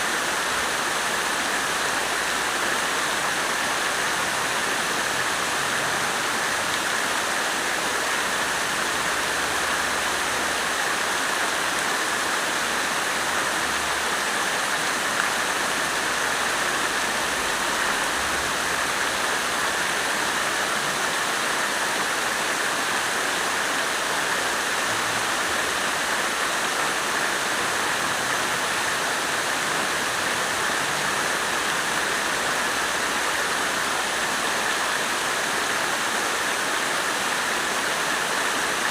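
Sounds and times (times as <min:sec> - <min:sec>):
water fountain splashing: 0:00.0 - 0:38.9.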